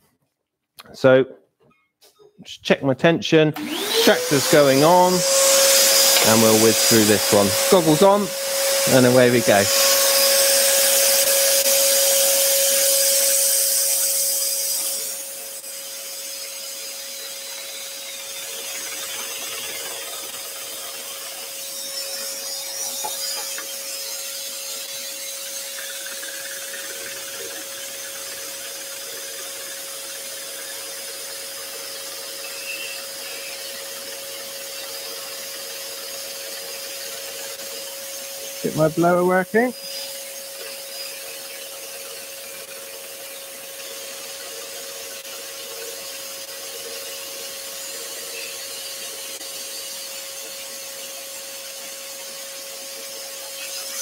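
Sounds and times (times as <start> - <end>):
scroll saw cutting wood: 3.6 - 54.0.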